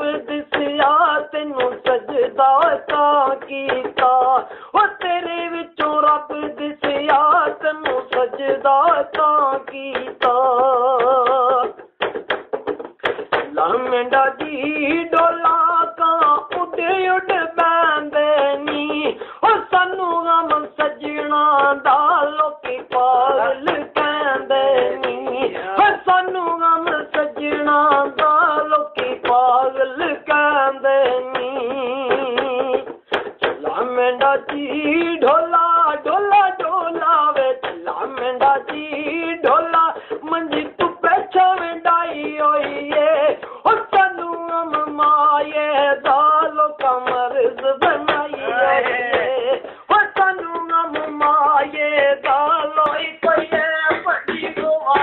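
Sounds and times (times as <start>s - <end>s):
man singing in high voice: 0.0s - 55.0s.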